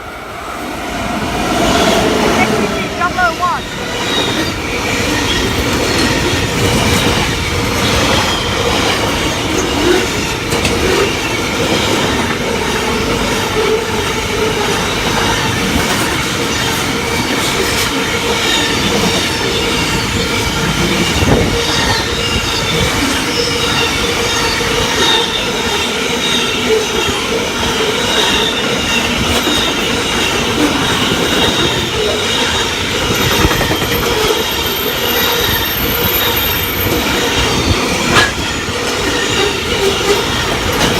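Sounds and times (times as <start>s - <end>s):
freight train rumbling past: 0.0s - 40.9s
high wheel squeal: 1.5s - 15.6s, 16.2s - 40.9s
wheels clacking over rail joints: 3.6s - 40.9s.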